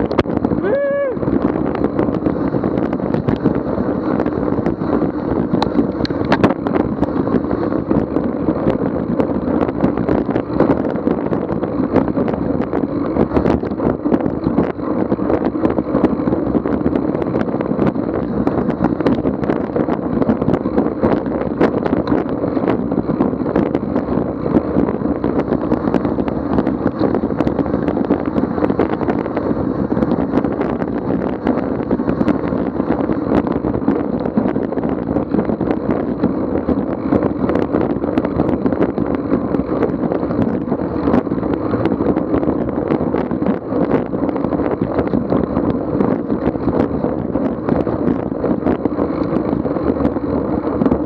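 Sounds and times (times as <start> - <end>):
wind buffeting microphone: 0.0 - 51.0
bike clicks and rattles: 1.3 - 51.0.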